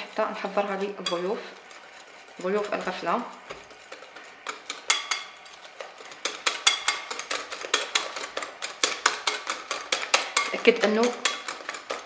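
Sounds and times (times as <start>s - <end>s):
whisk tapping glass bowl: 0.0s - 12.0s.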